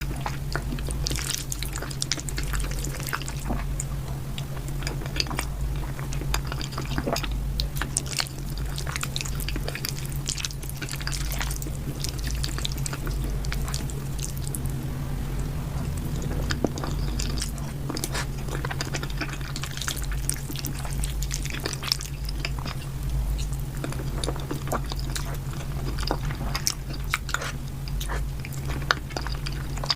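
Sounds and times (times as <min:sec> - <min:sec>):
chewing with wet smacks: 0:00.0 - 0:29.9
steady low hum: 0:00.0 - 0:29.9.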